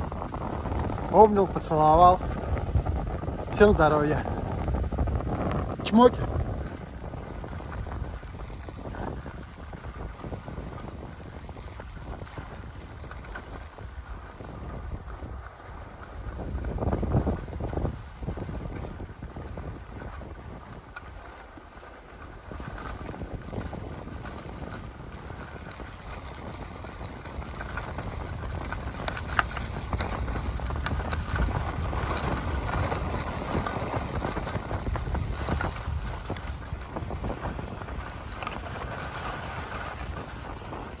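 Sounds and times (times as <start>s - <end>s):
skis scraping over snow: 0.0s - 41.0s
wind buffeting microphone: 0.0s - 41.0s.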